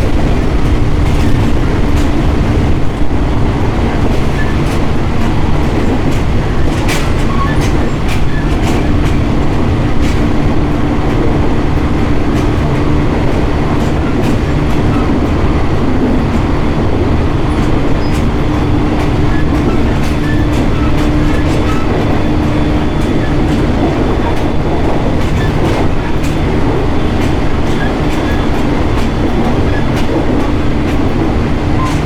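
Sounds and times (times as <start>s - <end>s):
clicks and clacks over track: 0.0s - 32.0s
train wheels rumbling on rail: 0.0s - 32.0s.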